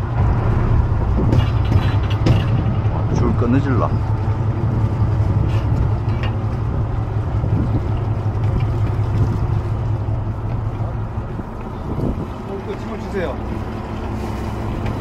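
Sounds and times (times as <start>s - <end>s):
wind noise: 0.0s - 13.9s
boat engine droning: 0.0s - 15.0s
water wash: 0.0s - 15.0s.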